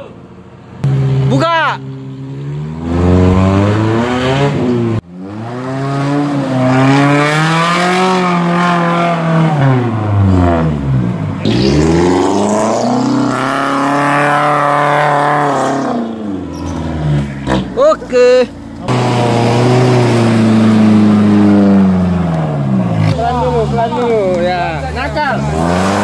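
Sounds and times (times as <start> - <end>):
off-road engine revving: 0.8 - 26.0.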